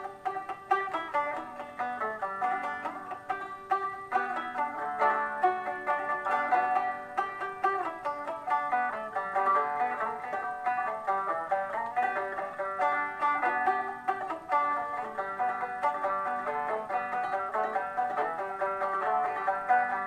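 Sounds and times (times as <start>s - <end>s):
banjo playing quick plucked notes: 0.0s - 20.0s.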